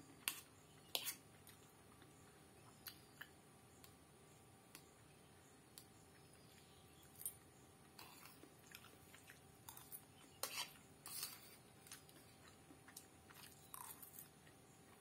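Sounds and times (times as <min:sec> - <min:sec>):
soft chewing: 0:00.1 - 0:04.0, 0:04.6 - 0:15.0.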